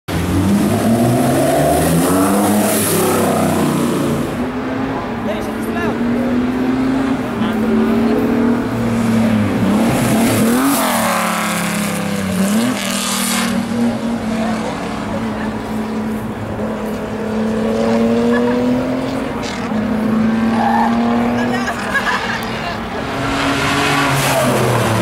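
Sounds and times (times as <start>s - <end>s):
race car engine at high revs: 0.1s - 25.0s.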